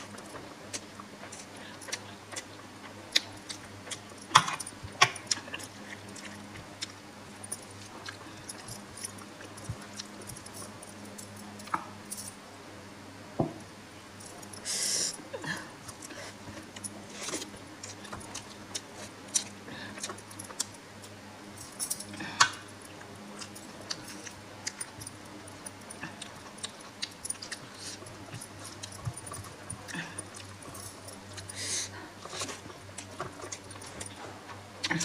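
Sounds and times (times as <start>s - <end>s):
wet chewing: 0.0s - 11.8s, 15.9s - 21.2s, 22.0s - 35.0s.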